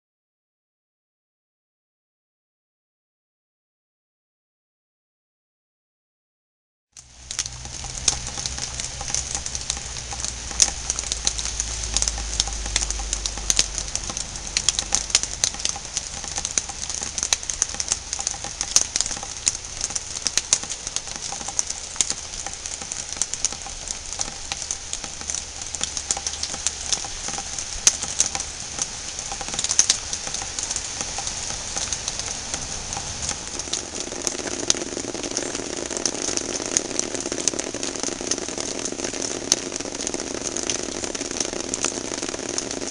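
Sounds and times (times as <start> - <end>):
rain pattering: 7.0 - 42.9.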